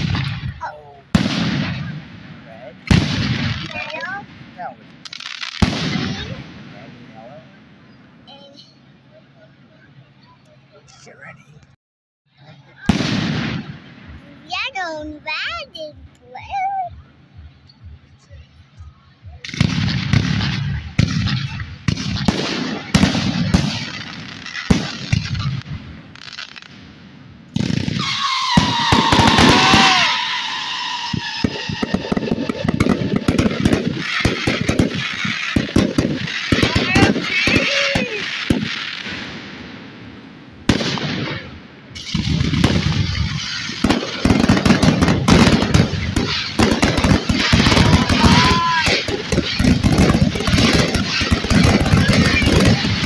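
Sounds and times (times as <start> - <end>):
firework crackle: 0.0 - 7.6, 17.7 - 53.0
firework booms: 0.0 - 7.8, 12.8 - 16.0, 19.2 - 53.0.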